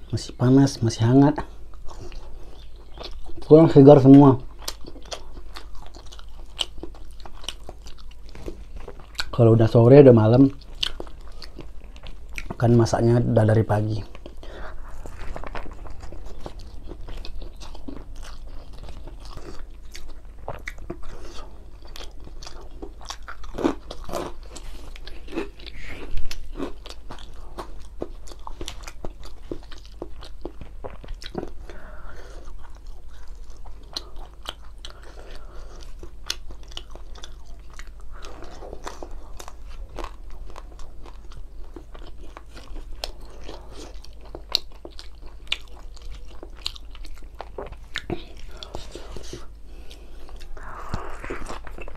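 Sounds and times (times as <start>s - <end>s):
faint low hum: 0.0s - 51.9s
person chewing food: 1.3s - 9.4s, 10.4s - 13.2s, 13.8s - 51.9s.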